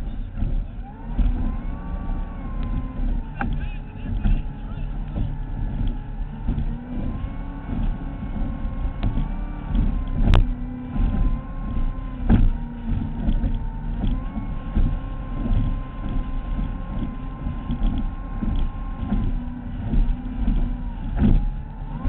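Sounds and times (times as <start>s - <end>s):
powerboat engine rumble: 0.0s - 22.0s.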